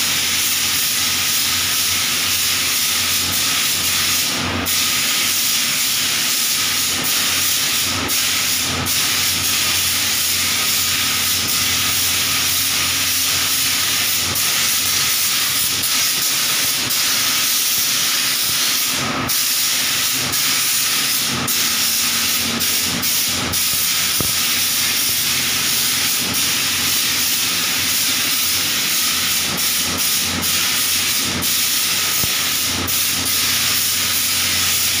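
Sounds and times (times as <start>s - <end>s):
paint spray gun hissing: 0.0s - 35.0s.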